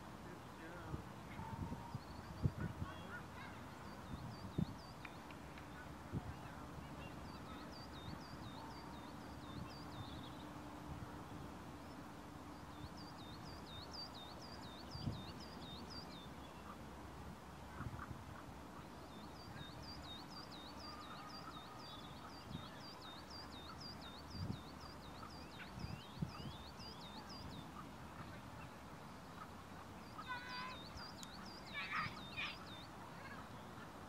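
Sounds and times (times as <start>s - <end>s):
songbird singing: 0.0s - 34.0s.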